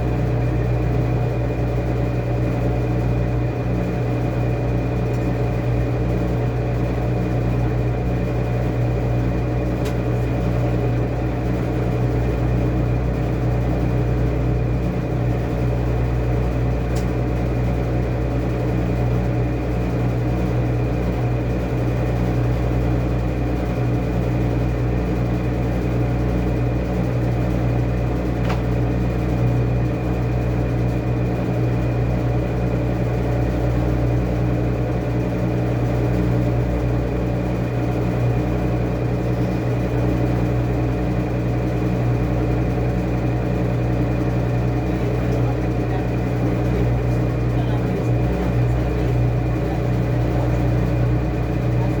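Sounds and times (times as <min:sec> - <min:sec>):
washing machine running: 0:00.0 - 0:52.0.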